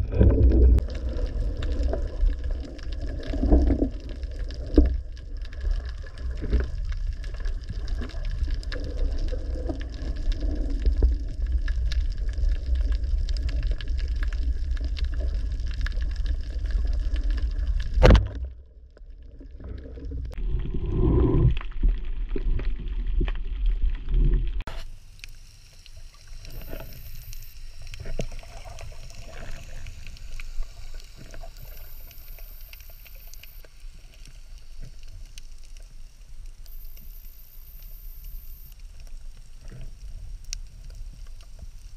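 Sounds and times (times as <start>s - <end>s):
underwater rumble of moving water: 0.0s - 41.9s.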